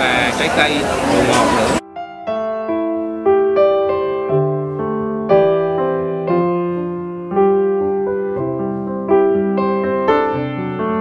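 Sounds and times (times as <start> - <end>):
slow piano piece: 1.0 - 11.0.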